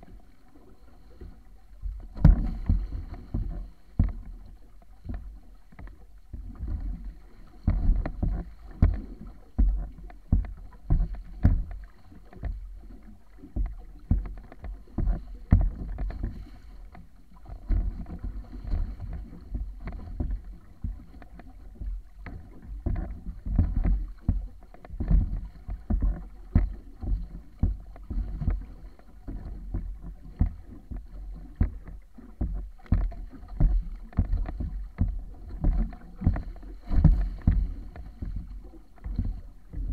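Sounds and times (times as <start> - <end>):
water rushing against hull: 0.0 - 39.9
water slaps and splashes: 0.0 - 39.9.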